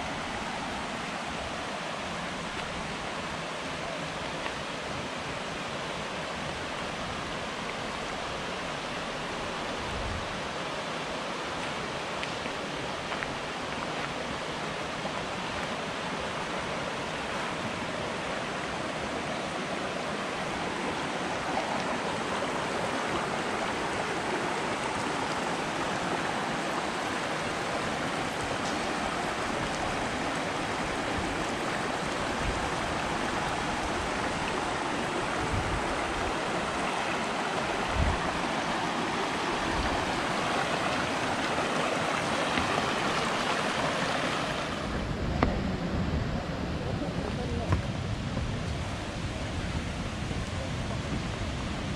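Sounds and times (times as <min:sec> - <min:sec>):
creek water rushing: 0:00.0 - 0:51.9.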